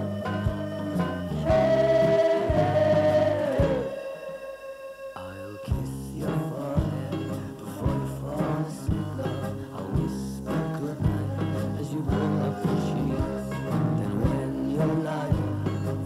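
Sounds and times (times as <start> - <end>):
drums keeping a beat: 0.0 - 4.0, 5.7 - 16.0
folk-rock band playing: 0.0 - 4.4, 5.7 - 16.0.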